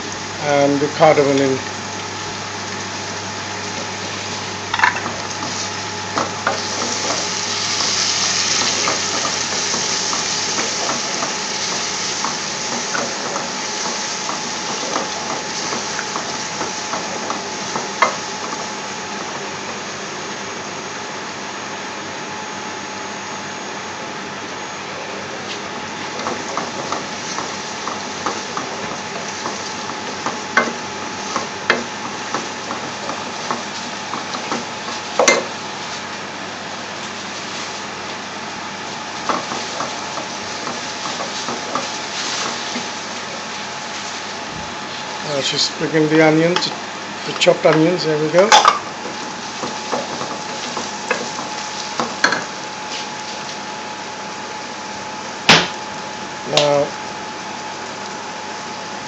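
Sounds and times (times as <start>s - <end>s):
oil sizzling in a pot: 0.0s - 21.9s, 25.6s - 59.0s.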